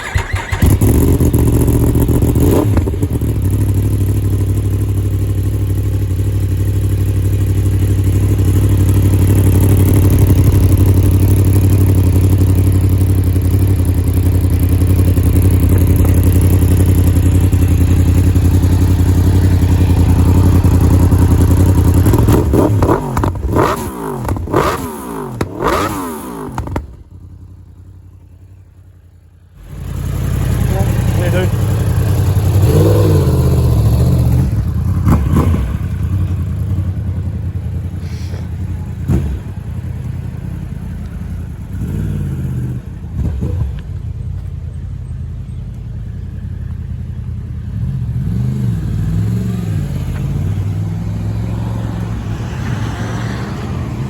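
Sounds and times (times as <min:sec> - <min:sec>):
motorcycle engine revving: 0:00.0 - 0:45.2, 0:46.0 - 0:54.0.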